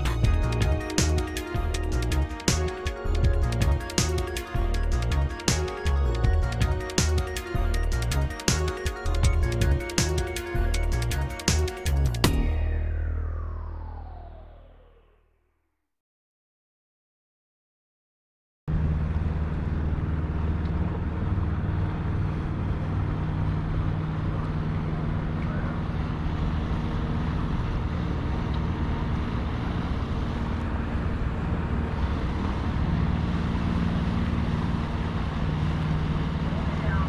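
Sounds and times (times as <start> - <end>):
boat engine droning: 0.0 - 15.3, 18.7 - 37.0.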